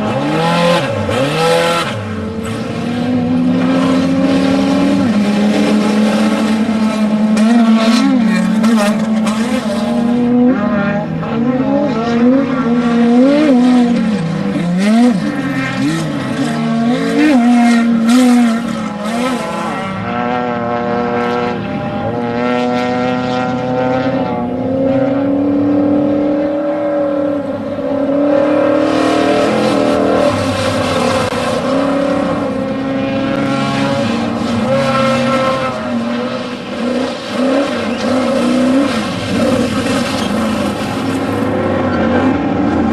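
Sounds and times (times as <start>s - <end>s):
off-road vehicle engines revving: 0.0s - 42.9s.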